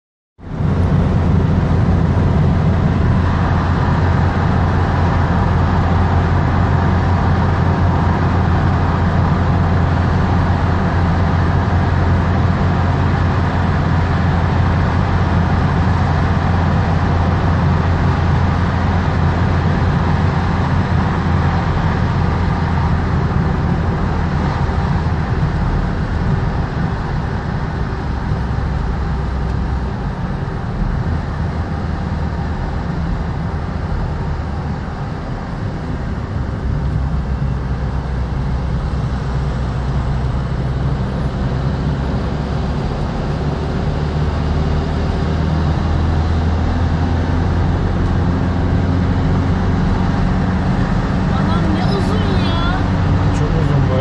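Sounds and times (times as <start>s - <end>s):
car cabin road rumble: 0.4s - 54.0s.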